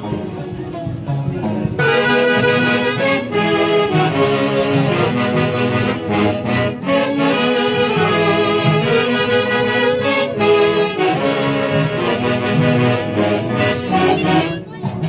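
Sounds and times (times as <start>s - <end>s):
festive band with reeds and brass: 0.0s - 15.0s.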